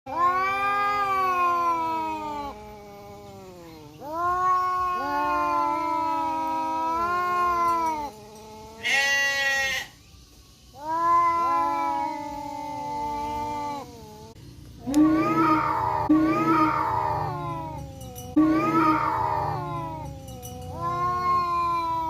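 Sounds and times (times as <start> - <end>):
cats yowling: 0.1 - 10.0, 10.7 - 22.0
sharp high cat cry: 0.1 - 10.0, 10.7 - 22.0.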